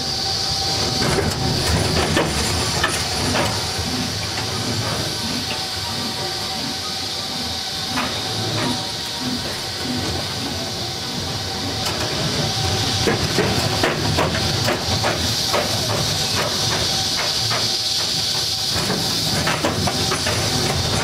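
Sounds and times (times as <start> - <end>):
roller coaster wheels rumbling: 0.0 - 21.0
track clicks and clacks: 0.8 - 6.8, 7.4 - 21.0.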